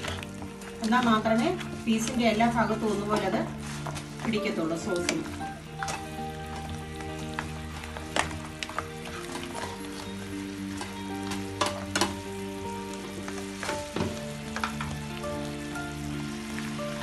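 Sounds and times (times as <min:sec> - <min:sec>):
chicken sizzling in a pan: 0:00.0 - 0:17.0
soft background music: 0:00.0 - 0:17.0.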